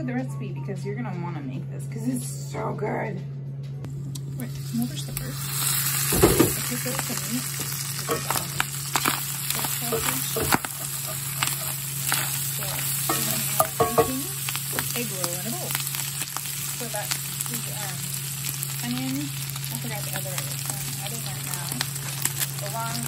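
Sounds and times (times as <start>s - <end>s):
meat sizzling in a skillet: 4.4s - 23.0s.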